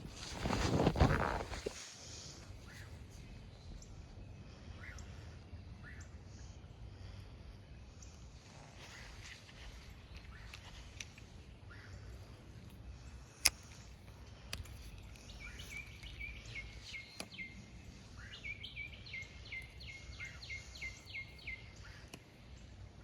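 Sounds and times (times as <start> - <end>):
songbird chirping: 0.1 - 23.0.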